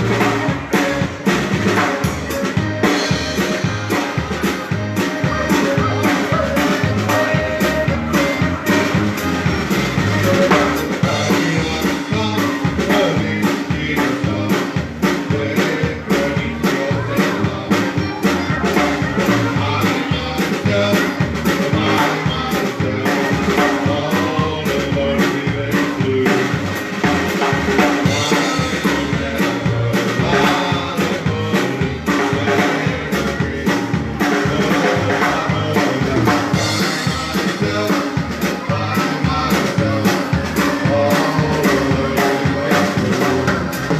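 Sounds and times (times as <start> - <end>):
dance band playing: 0.0 - 43.9
drum kit beat: 0.0 - 43.9.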